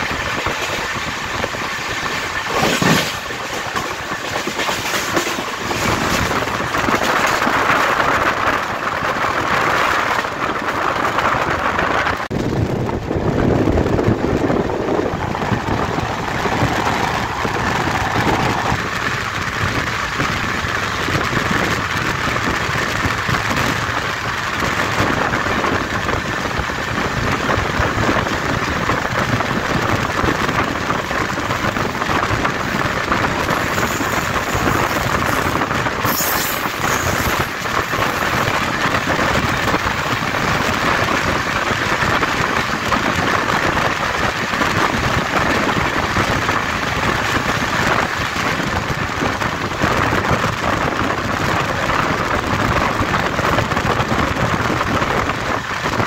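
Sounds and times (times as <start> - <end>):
wheels rushing on track: 0.0 - 56.0
wind noise: 0.0 - 56.0.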